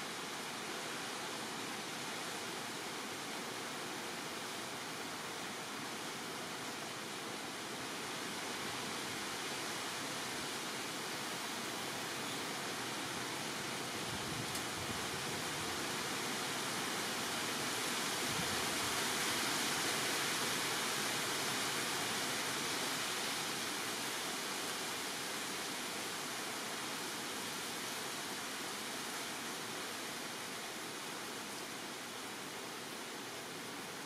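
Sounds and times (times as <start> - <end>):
steady rushing hiss: 0.0 - 34.0.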